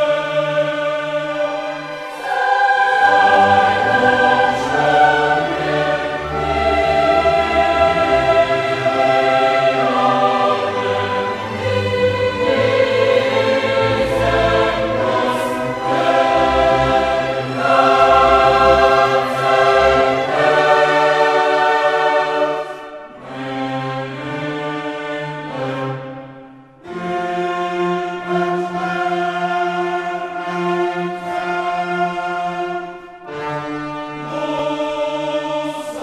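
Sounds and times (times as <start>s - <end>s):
choir with orchestra: 0.0s - 36.0s.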